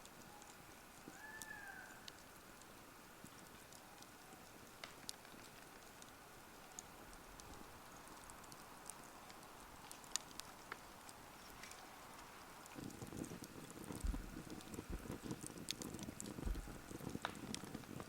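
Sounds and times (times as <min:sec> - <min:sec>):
campfire crackling: 0:00.0 - 0:18.0
soft steady hiss: 0:00.0 - 0:18.0.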